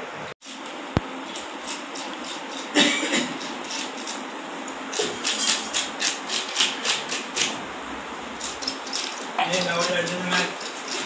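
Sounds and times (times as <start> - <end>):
blade scraping fish scales: 1.3 - 7.6, 8.4 - 11.0.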